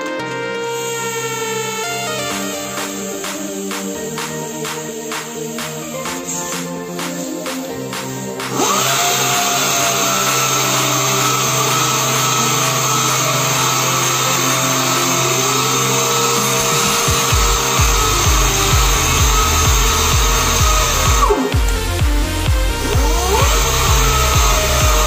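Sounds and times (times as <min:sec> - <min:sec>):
low music beat: 0:00.0 - 0:25.0
orbital sander running: 0:00.7 - 0:25.0.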